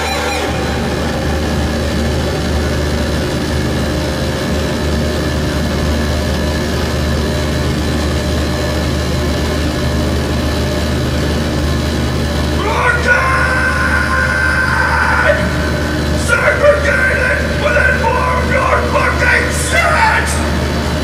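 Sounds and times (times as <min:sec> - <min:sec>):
heavy low rumble: 0:00.0 - 0:21.0
wall of distorted noise: 0:00.0 - 0:21.0.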